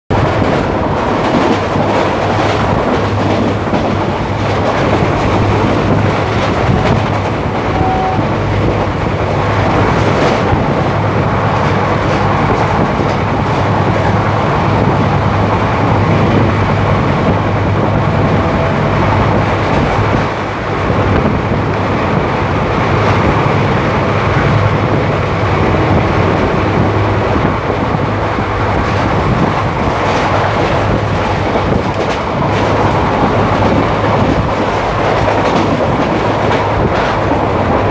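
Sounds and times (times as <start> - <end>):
train wheels rumbling on rails: 0.1 - 37.9.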